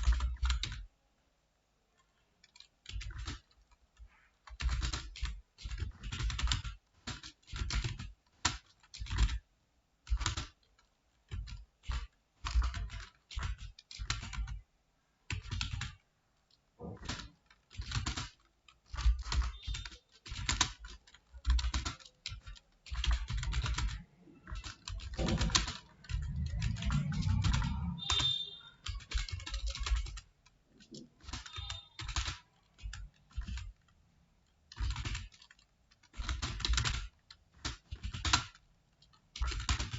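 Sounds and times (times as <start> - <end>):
computer keyboard typing: 0.0 - 0.9, 1.9 - 39.9.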